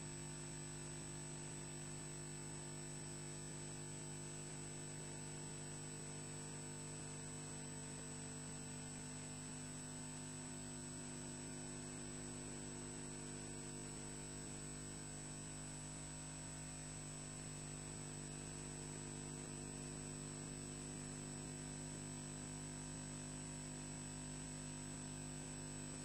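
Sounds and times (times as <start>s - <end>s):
electrical hum with high whine: 0.0s - 26.0s.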